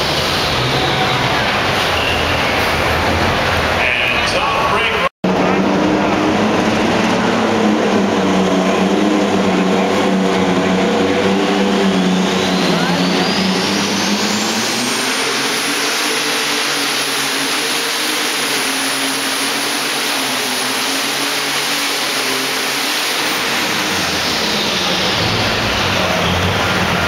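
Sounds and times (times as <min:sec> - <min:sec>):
high whine: 0:00.0 - 0:27.0
tractor engine at full throttle: 0:00.0 - 0:27.0.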